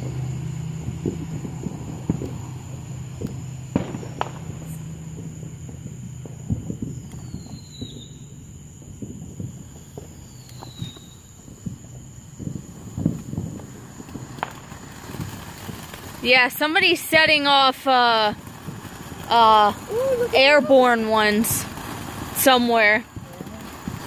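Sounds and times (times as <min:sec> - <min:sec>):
falling firework whistles: 0:00.0 - 0:24.0
fireworks popping and crackling: 0:00.0 - 0:24.0.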